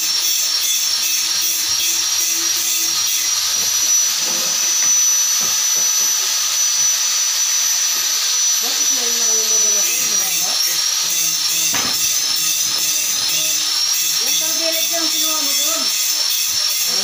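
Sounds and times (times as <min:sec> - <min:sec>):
power machine hissing and whining: 0:00.0 - 0:17.0.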